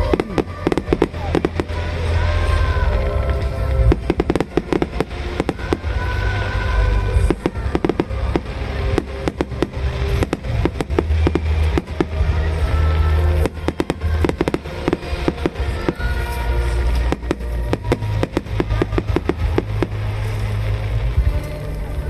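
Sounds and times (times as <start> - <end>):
deep rumble of booms: 0.0 - 22.0
fireworks bursts and crackling: 0.0 - 22.0
music playing: 0.0 - 22.0.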